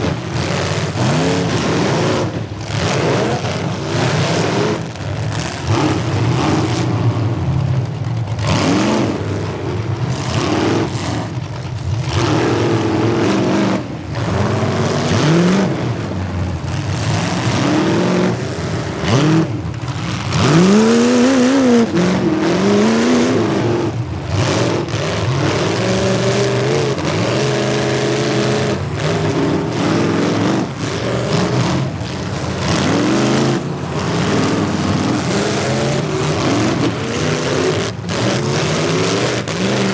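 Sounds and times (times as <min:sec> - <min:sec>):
car engines revving hard: 0:00.0 - 0:39.9.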